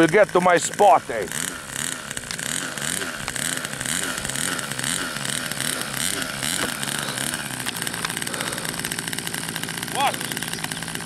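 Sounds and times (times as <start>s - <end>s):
model plane engine running: 0.0s - 11.0s.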